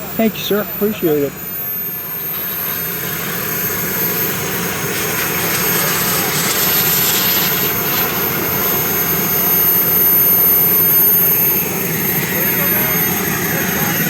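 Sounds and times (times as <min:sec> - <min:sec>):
jet turbine whine: 0:00.0 - 0:14.0
rushing jet noise: 0:00.0 - 0:14.0.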